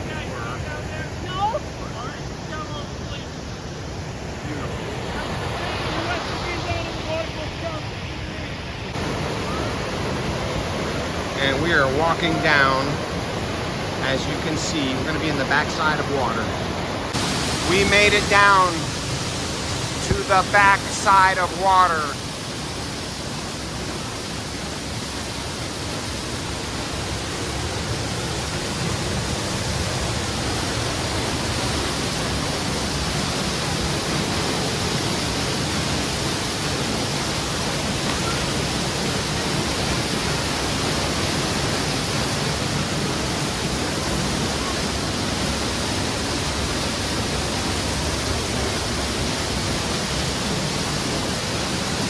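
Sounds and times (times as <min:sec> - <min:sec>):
waterfall crashing: 0:00.0 - 0:52.0.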